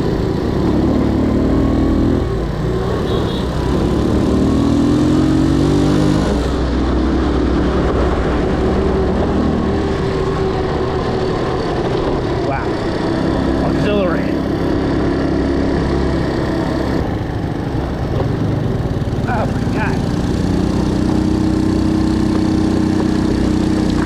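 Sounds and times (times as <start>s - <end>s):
motorbike engine accelerating: 0.0s - 24.0s
wind and road noise: 0.0s - 24.0s.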